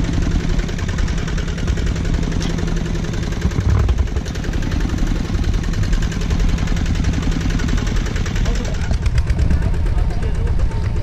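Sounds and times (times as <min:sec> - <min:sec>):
diesel engine puttering: 0:00.0 - 0:11.0.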